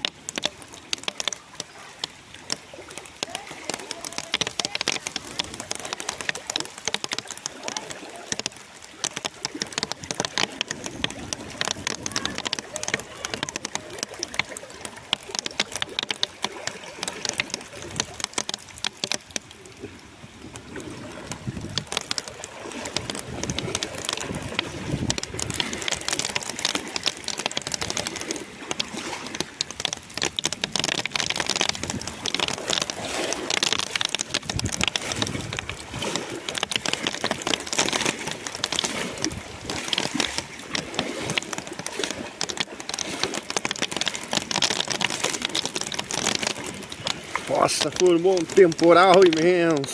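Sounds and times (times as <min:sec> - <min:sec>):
heavy rain patter: 0:00.0 - 0:49.9.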